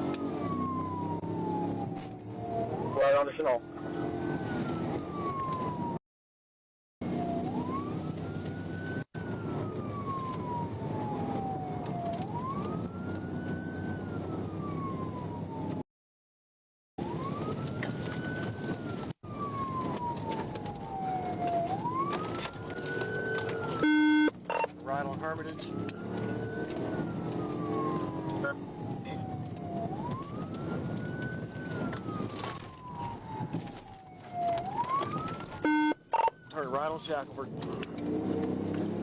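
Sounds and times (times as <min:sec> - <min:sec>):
car engine and road noise: 0:00.0 - 0:06.0, 0:07.0 - 0:15.8, 0:17.1 - 0:39.0
police siren wailing: 0:00.0 - 0:06.0, 0:07.0 - 0:15.8, 0:17.0 - 0:37.2.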